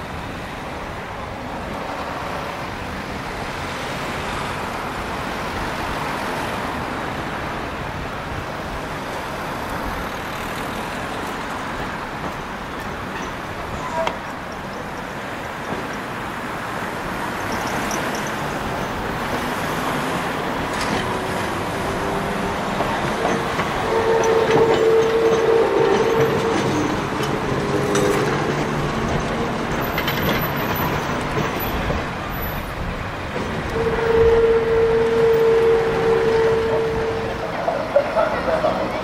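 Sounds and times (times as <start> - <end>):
tram rumbling on rails: 0.0 - 39.0.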